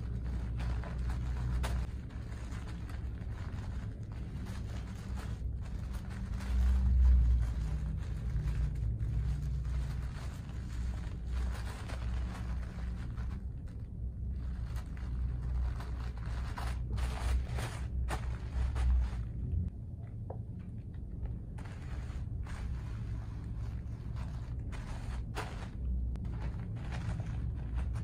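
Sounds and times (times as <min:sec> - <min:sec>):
wrapping paper rustling: 0:00.0 - 0:19.7, 0:21.0 - 0:28.0
steady low rumble: 0:00.0 - 0:28.0.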